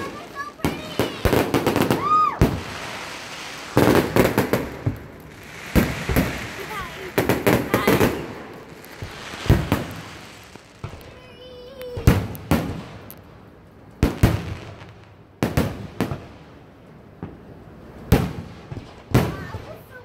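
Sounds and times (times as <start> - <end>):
firework shells booming: 0.0 - 13.2, 14.0 - 20.0.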